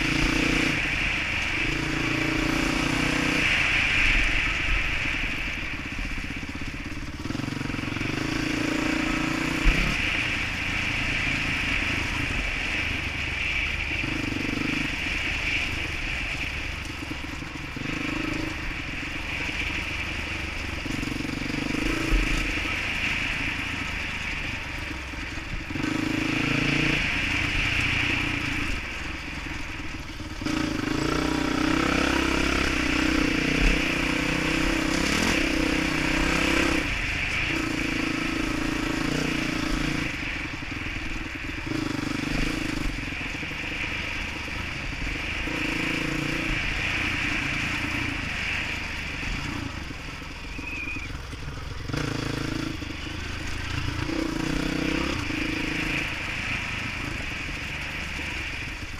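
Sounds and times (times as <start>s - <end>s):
dirt bike engine revving: 0.0s - 5.2s, 7.1s - 12.8s, 13.5s - 58.9s.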